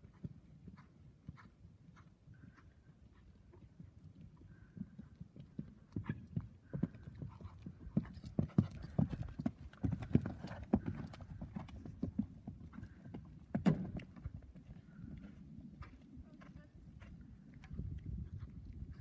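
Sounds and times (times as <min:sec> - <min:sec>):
horse hoofbeats on sand: 0:00.0 - 0:19.0.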